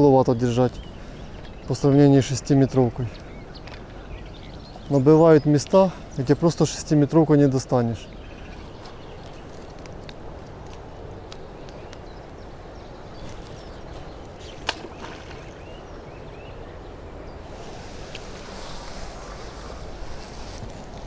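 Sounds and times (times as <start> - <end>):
distant bird calls: 0.0 - 9.9, 11.1 - 20.3
low outdoor hiss: 0.0 - 21.0.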